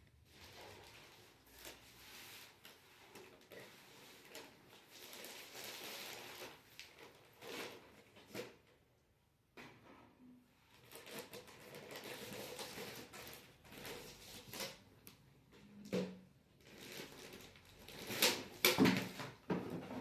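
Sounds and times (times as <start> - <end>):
packaging rustling and scraping: 0.2 - 8.8, 10.6 - 15.0, 16.5 - 20.0.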